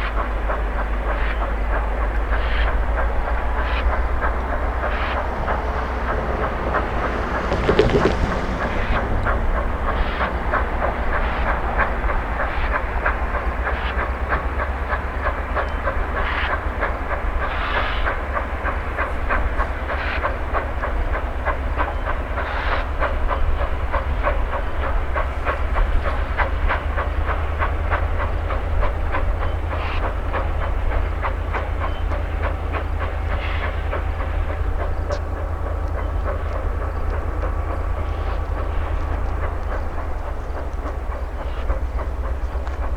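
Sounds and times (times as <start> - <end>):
steam exhaust hissing: 0.0 - 42.9
steam locomotive clanking: 0.0 - 42.9.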